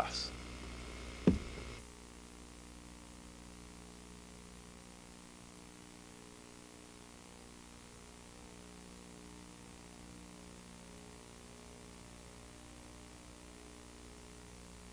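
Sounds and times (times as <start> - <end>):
faint steady hiss: 0.0 - 14.9
low electrical hum: 0.0 - 14.9.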